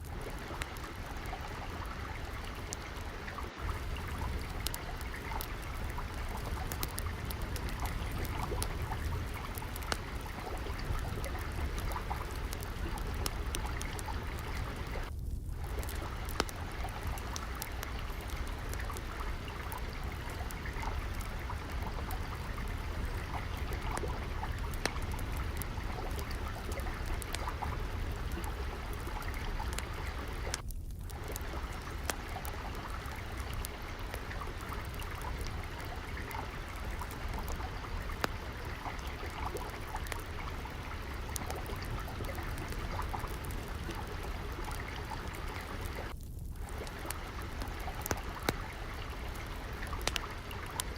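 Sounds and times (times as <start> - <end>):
trickling water: 0.0 - 50.9
wood fire crackling: 0.0 - 50.9.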